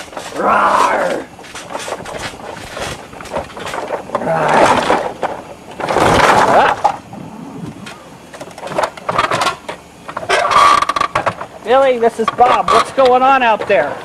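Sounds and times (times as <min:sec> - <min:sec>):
noisy crashes and clattering: 0:00.0 - 0:13.9.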